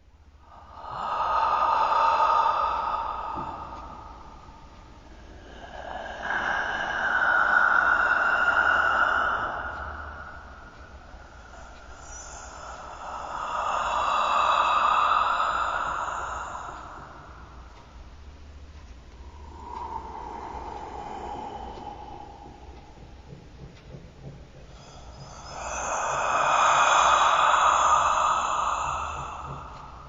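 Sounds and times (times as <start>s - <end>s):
dark breathy whispering: 0.0s - 30.0s.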